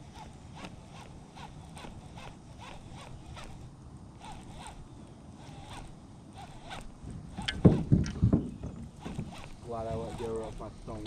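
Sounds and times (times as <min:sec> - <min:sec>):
fishing reel cranking whir: 0:00.0 - 0:08.2, 0:08.9 - 0:11.0.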